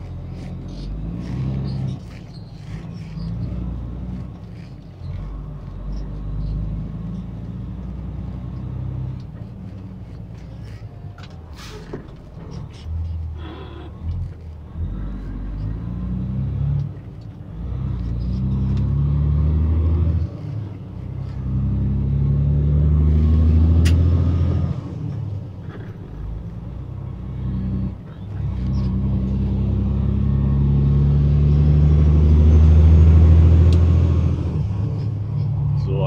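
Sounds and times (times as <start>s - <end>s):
diesel truck engine accelerating: 0.0s - 36.0s.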